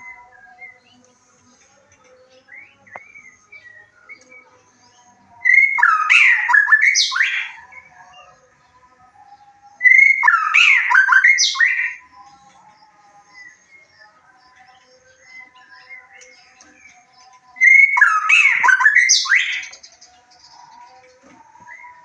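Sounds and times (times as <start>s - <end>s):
songbird singing rich phrases: 0.0s - 22.0s
faint bird twittering: 2.0s - 7.9s, 9.8s - 22.0s.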